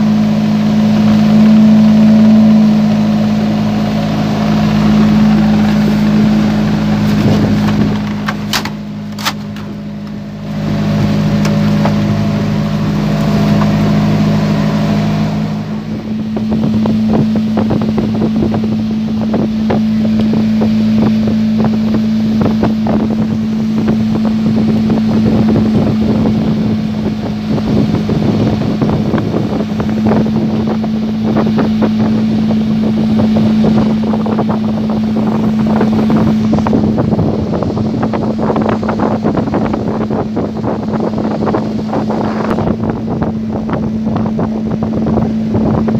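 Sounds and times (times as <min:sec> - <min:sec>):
outboard boat engine running: 0:00.0 - 0:45.9
wind rumbling on microphone: 0:00.0 - 0:45.9.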